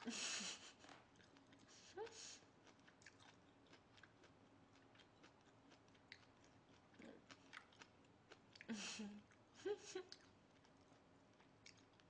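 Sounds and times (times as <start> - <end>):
faint steady hum: 0.0 - 12.0
mouth chewing: 0.8 - 12.0.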